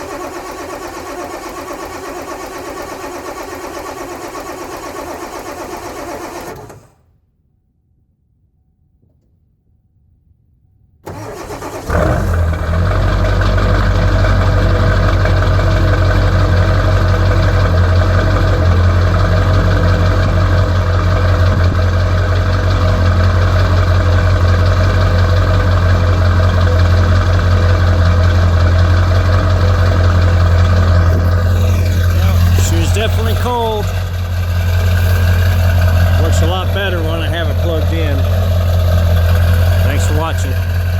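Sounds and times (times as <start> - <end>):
diesel engine cranking and idling: 0.0 - 7.2, 11.0 - 40.9.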